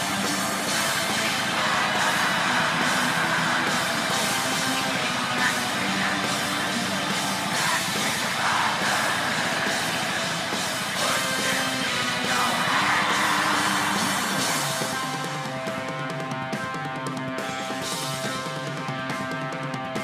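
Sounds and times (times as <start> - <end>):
distorted electric guitars: 0.0 - 20.0
drum kit playing: 0.0 - 20.0.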